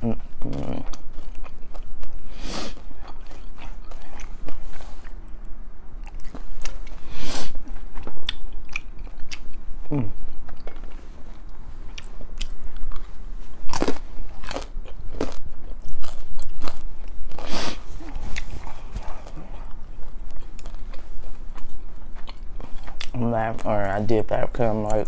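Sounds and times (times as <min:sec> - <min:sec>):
close chewing: 0:00.1 - 0:05.4, 0:07.6 - 0:24.0.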